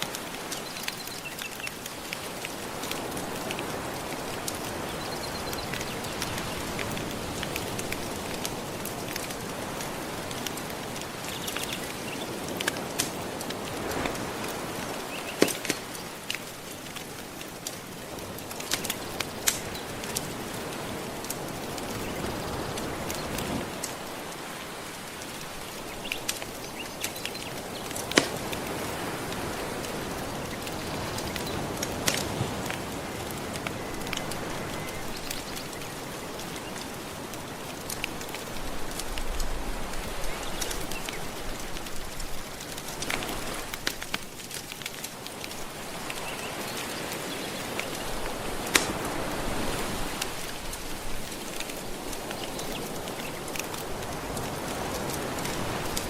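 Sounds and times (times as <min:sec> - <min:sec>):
gentle ocean waves: 0:00.0 - 0:56.0
wood fire crackling and popping: 0:00.0 - 0:56.0.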